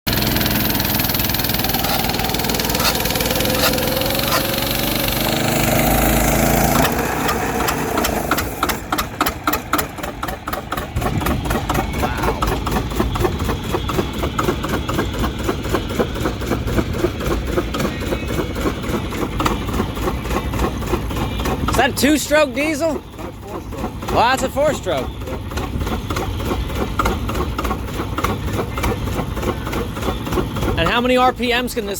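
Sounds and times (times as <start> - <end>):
engine slow even beat: 0.1 - 31.9.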